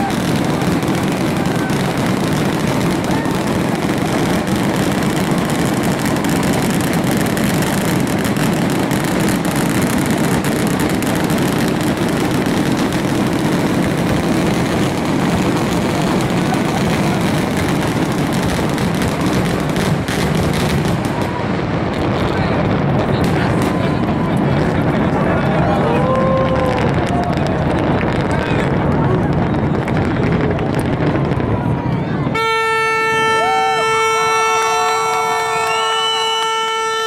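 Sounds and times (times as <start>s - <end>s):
fireworks bursting rumble: 0.0s - 37.0s
rapid fireworks crackling: 0.0s - 37.0s.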